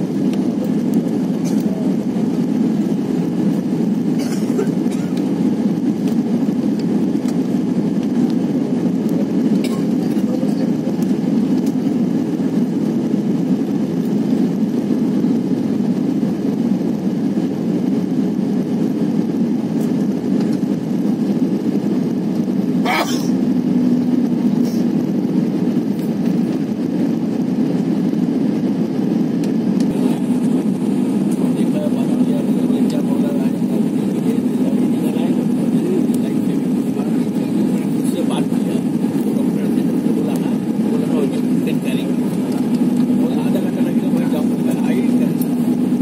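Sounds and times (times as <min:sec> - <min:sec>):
airliner cabin jet engine noise: 0:00.0 - 0:46.0.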